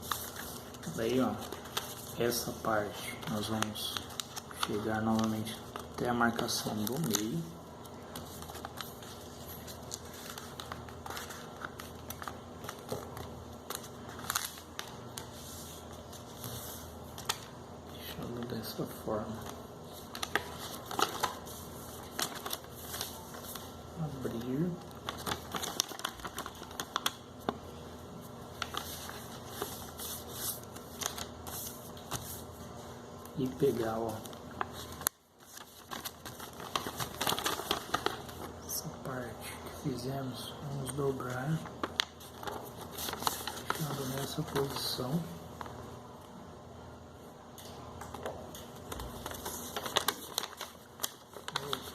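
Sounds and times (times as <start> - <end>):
paper rustling and crinkling: 0.0 - 17.6, 18.2 - 38.8, 40.7 - 45.8, 48.1 - 51.9.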